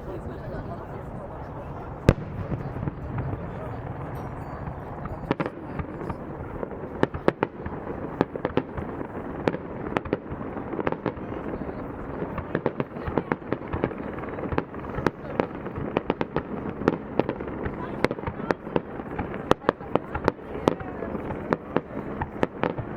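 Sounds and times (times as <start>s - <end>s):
fireworks bursting: 1.8s - 22.9s.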